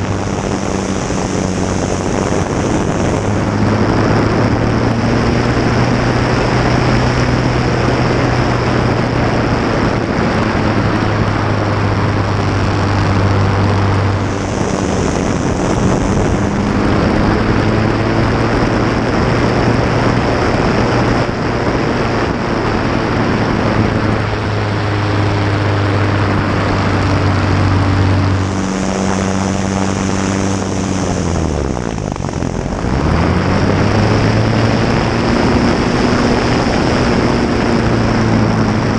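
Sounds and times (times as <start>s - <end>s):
light aircraft engine running: 0.0s - 38.9s
wind rush: 0.0s - 38.9s.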